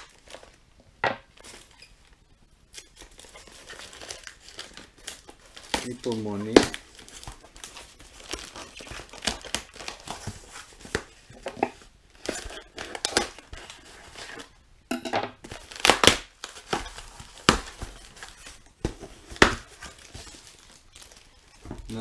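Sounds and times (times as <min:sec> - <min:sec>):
plastic mailer crinkling: 0:00.0 - 0:00.6, 0:02.8 - 0:14.5, 0:15.4 - 0:22.0
packing tape and cardboard ripping: 0:02.7 - 0:14.5, 0:15.4 - 0:22.0.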